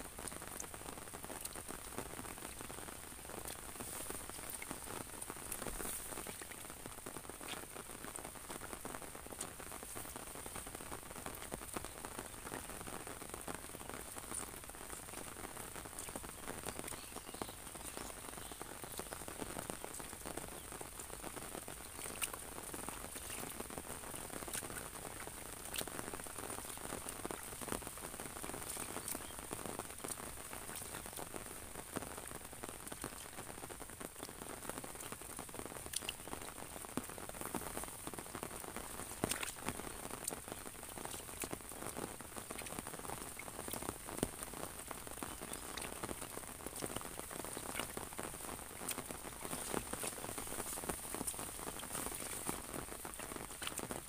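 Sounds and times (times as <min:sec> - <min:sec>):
rain on rice paddy: 0:00.0 - 0:54.0
rain pattering on umbrella: 0:00.0 - 0:54.0.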